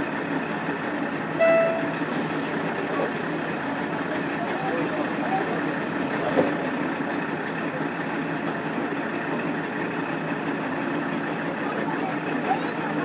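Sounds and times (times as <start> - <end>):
railcar diesel engine running: 0.0 - 13.0
train wheels on rails: 0.0 - 13.0.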